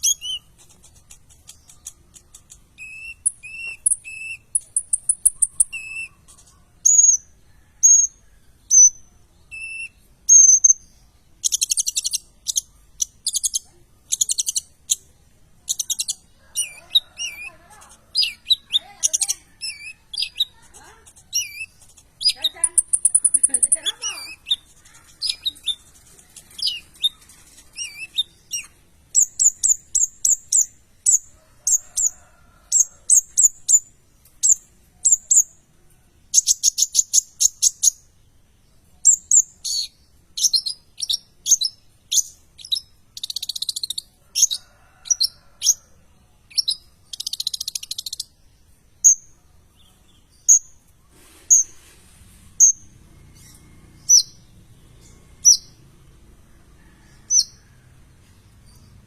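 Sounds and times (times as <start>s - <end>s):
bird singing with chirps and trills: 0.0s - 32.1s, 32.7s - 35.7s, 36.3s - 51.8s, 52.6s - 56.0s, 57.0s - 59.0s.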